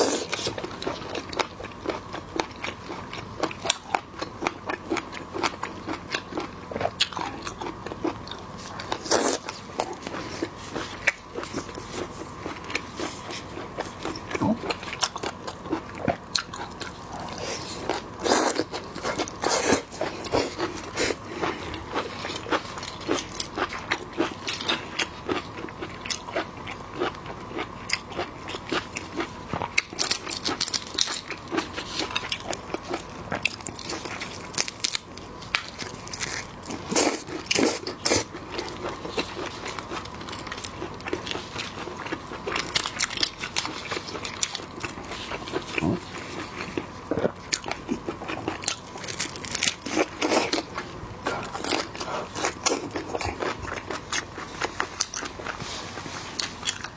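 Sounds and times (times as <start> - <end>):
person chewing and crunching food: 0.0 - 56.9.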